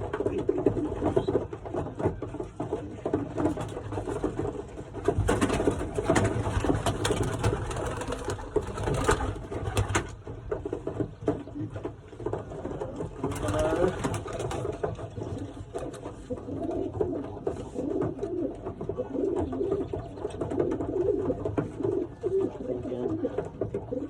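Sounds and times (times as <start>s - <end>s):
birds tapping and rustling: 0.0s - 24.0s
pigeons cooing: 0.0s - 24.0s.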